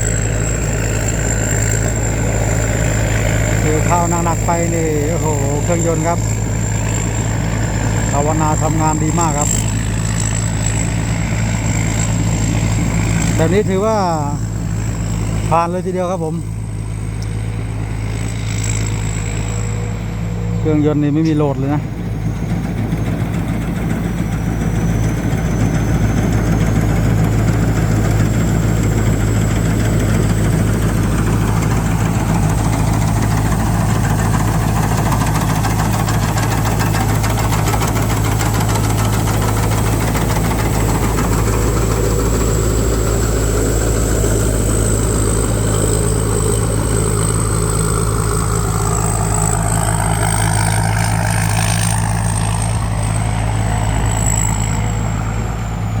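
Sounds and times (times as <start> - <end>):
combine harvester engine droning: 0.0 - 56.0
high whine: 0.0 - 56.0.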